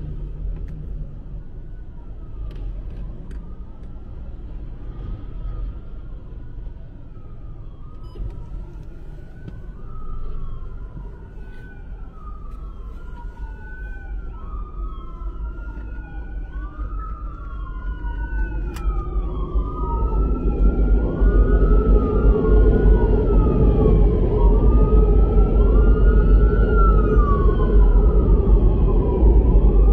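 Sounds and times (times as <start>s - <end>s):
emergency vehicle siren wailing: 0.0s - 29.9s.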